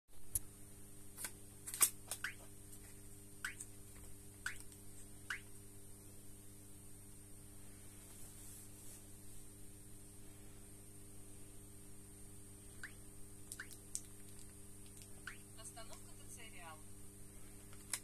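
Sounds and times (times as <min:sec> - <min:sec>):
steady electrical hum: 0:00.1 - 0:18.0.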